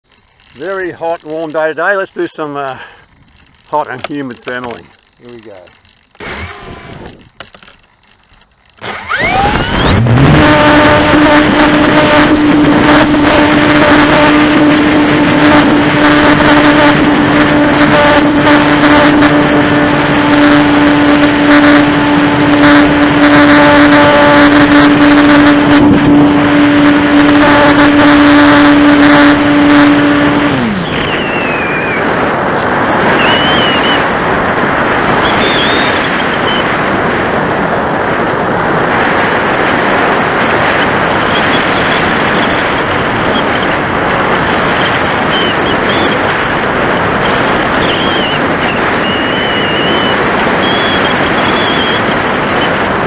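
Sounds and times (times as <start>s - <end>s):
electric motor and propeller whine: 0.0s - 53.0s
wind rushing past: 8.8s - 53.0s.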